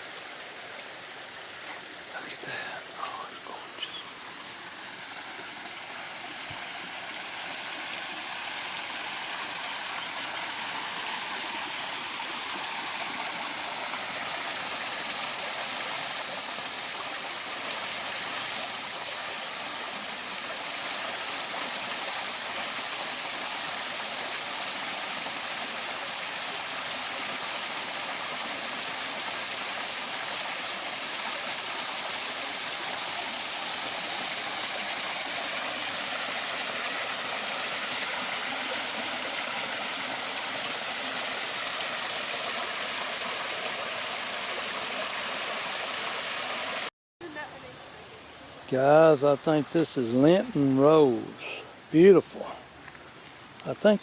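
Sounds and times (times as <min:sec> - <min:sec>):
waterfall splashing: 0:01.9 - 0:46.9.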